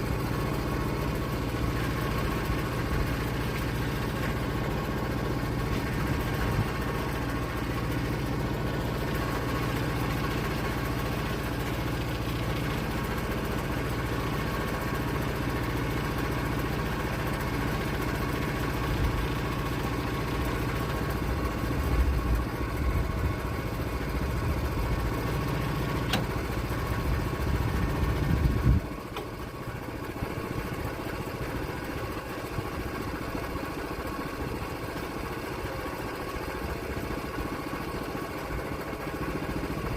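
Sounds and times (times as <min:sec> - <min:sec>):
engine rumbling: 0:00.0 - 0:39.9.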